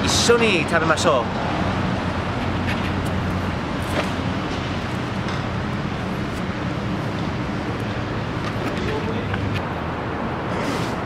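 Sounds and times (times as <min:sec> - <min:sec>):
cars driving by: 0:00.0 - 0:11.0
city street traffic hum: 0:00.0 - 0:11.0.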